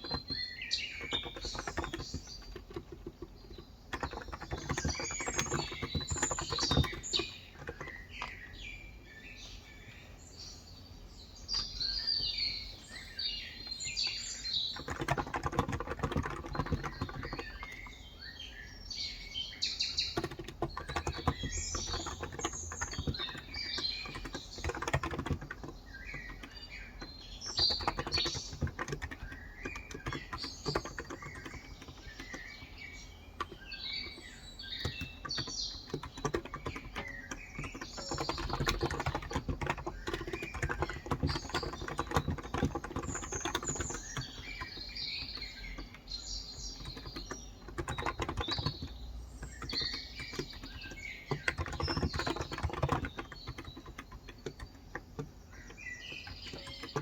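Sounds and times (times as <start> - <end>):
typing on a keyboard: 0.0 - 8.6, 13.7 - 18.3, 19.2 - 57.0
birds chirping: 0.0 - 57.0.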